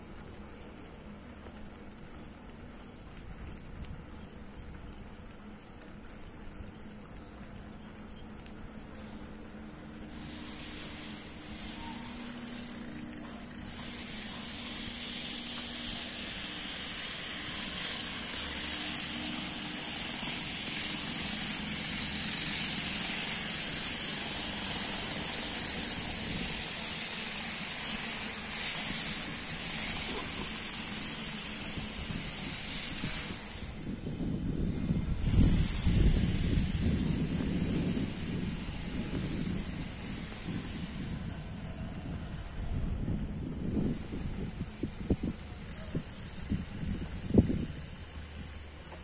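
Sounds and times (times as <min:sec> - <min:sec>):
bicycle rolling on paved road: 0:00.0 - 0:49.0.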